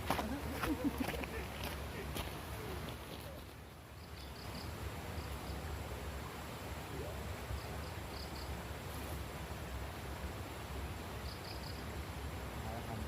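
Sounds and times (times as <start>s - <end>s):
insect chirping: 0.7s - 13.0s.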